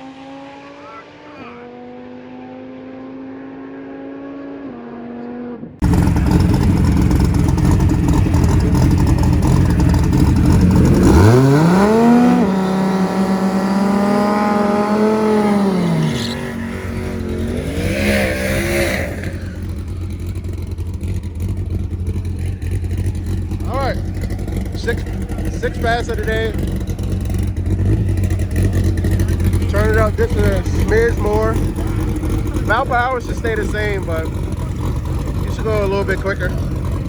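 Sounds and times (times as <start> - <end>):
drag car engine roaring: 0.0 - 37.0.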